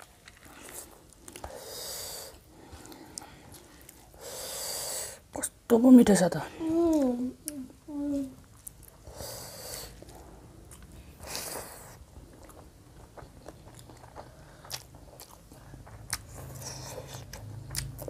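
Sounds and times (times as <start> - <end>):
people chewing food: 0.0 - 5.3, 6.6 - 18.0
faint low hum: 0.0 - 18.0.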